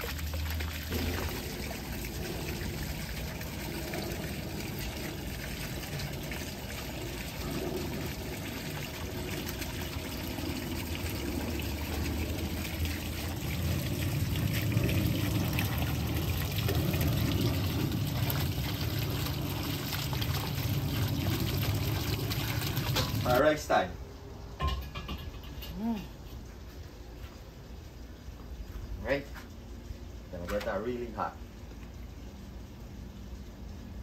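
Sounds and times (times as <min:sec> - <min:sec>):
water running and trickling: 0:00.0 - 0:23.9, 0:26.4 - 0:34.0.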